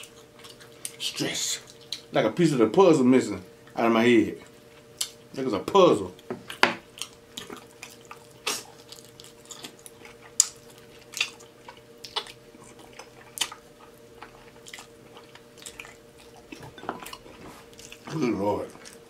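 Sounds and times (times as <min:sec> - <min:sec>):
chewing meat: 0:00.0 - 0:02.2, 0:03.6 - 0:05.4, 0:06.1 - 0:19.0
faint steady hum: 0:00.0 - 0:19.0.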